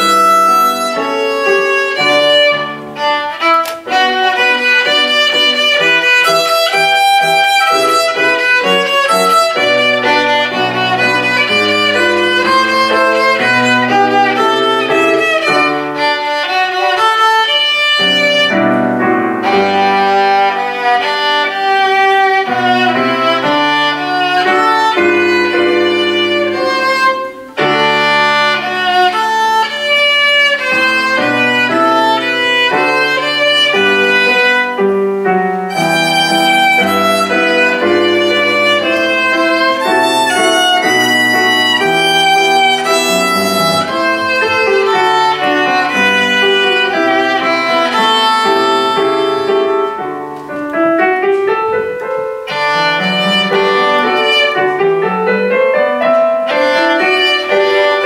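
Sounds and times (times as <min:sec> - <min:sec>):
lower accompaniment: 0:00.0 - 0:58.0
violin playing quick melody: 0:00.0 - 0:58.0.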